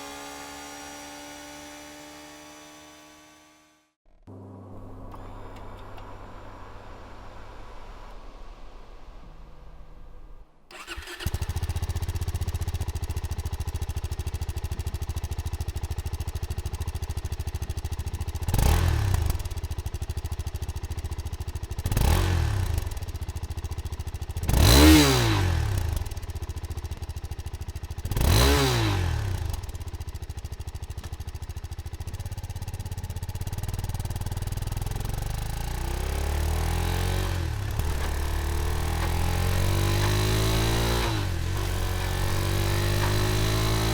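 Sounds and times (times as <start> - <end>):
motorcycle engine revving: 0.0 - 4.0, 9.6 - 43.9.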